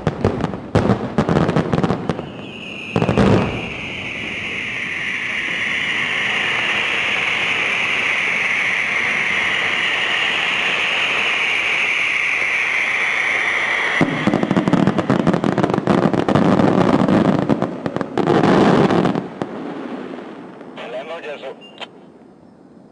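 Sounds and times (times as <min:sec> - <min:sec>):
firework crackling: 0:00.0 - 0:21.4
firework hiss: 0:00.0 - 0:21.4.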